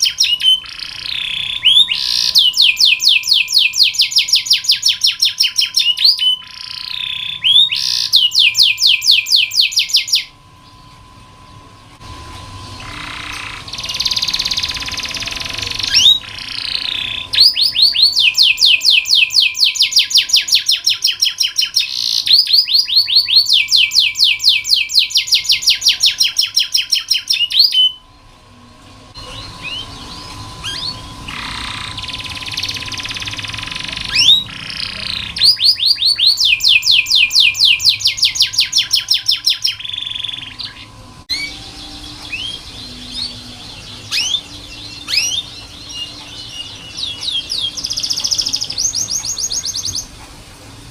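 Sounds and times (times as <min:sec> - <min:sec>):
canary trilling and chirping: 0:00.0 - 0:10.8, 0:12.6 - 0:28.0, 0:29.2 - 0:50.1.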